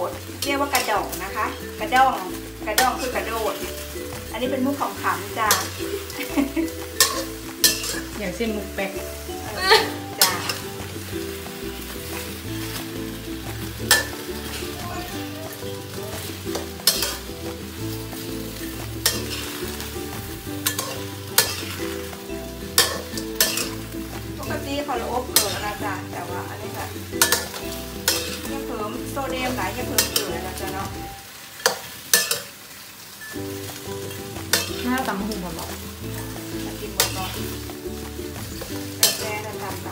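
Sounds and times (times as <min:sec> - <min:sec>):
tongs clacking and scraping: 0:00.0 - 0:32.5, 0:33.2 - 0:39.9
shrimp sizzling in a wok: 0:00.0 - 0:39.9.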